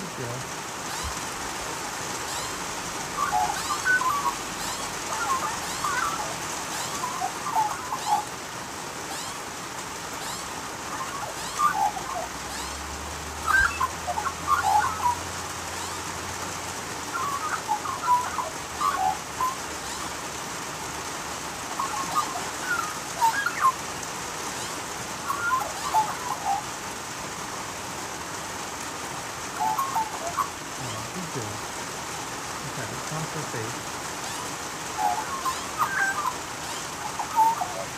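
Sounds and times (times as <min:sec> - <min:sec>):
rain falling: 0:00.0 - 0:37.9
magpies carolling: 0:00.7 - 0:37.9.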